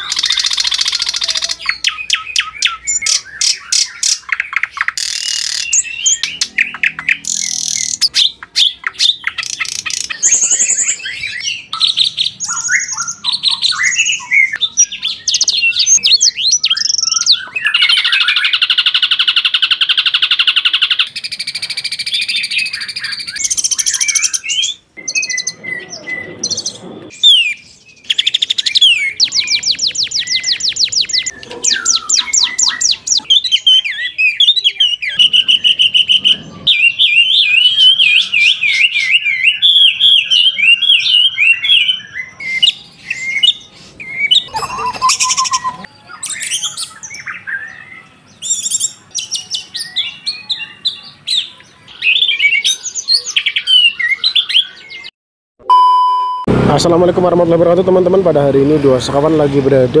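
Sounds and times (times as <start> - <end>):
songbirds singing: 0.0 - 55.1.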